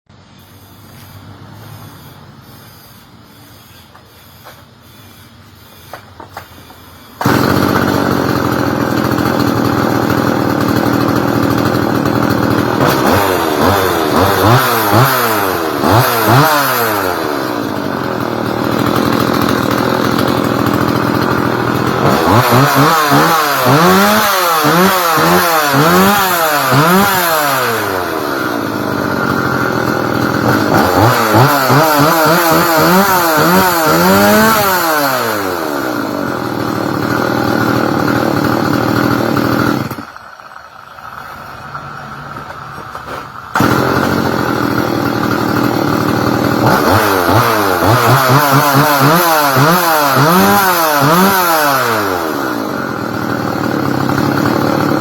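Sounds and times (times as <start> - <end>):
chainsaw engine revving: 0.5 - 55.0.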